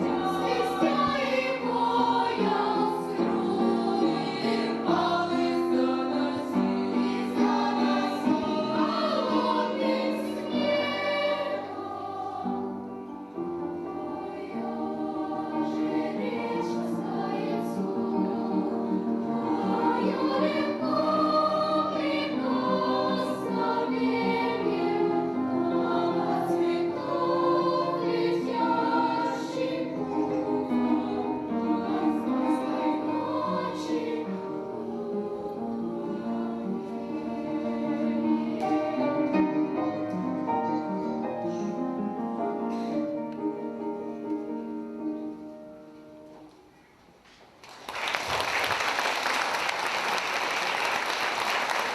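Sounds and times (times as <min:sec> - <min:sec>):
children's choir singing: 0:00.0 - 0:46.8.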